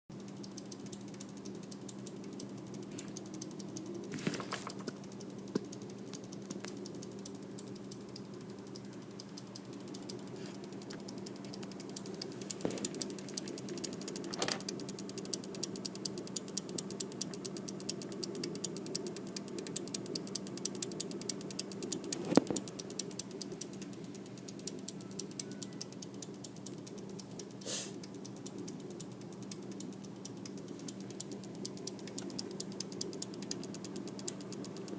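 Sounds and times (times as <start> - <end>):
power supply ratchet-like clicking: 0.1 - 34.9
steady power supply hum: 0.1 - 34.9.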